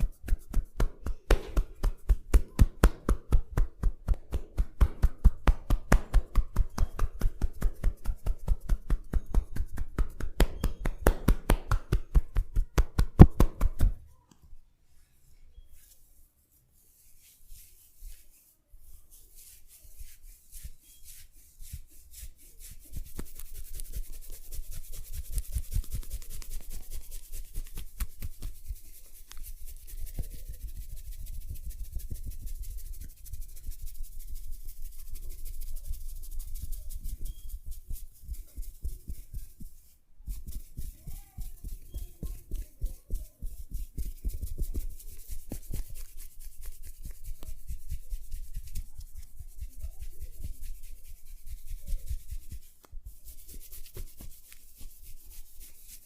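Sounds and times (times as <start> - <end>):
hands rubbing over skin: 0.0 - 14.0, 15.7 - 56.0.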